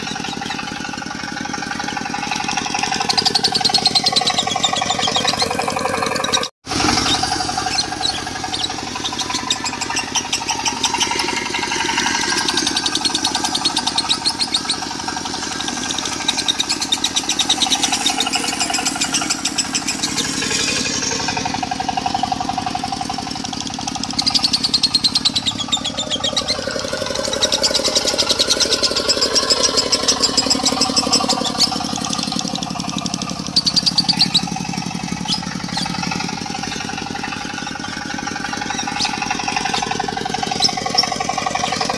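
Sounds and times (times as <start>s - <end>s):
diesel engine running: 0.0s - 41.9s
lovebirds trilling: 0.0s - 41.9s.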